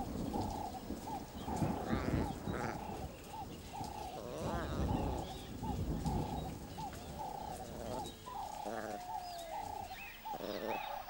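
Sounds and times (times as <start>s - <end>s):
bird hooked calls: 0.0s - 11.0s
buzzy bird calls: 0.0s - 11.0s.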